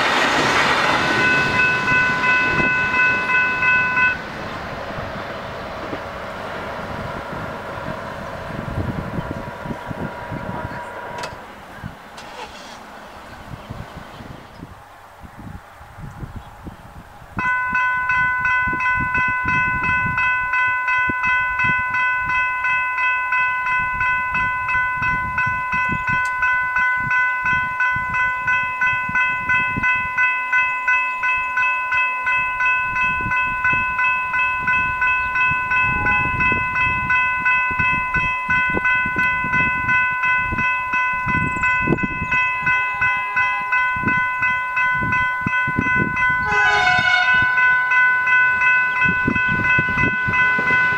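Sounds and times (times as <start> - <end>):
level crossing warning bells: 0.0 - 14.6, 17.4 - 50.9.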